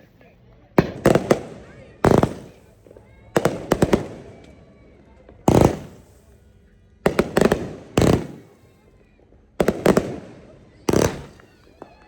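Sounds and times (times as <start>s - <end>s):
fireworks exploding: 0.7s - 12.0s.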